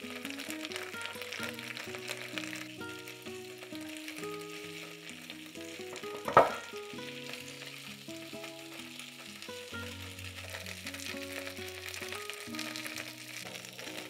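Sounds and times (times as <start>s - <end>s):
ribs sizzling in grill pan: 0.0s - 14.0s.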